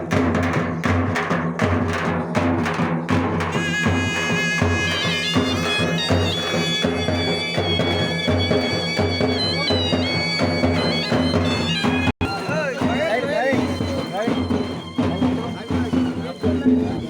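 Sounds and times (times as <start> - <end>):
low drum beat: 0.0 - 17.0.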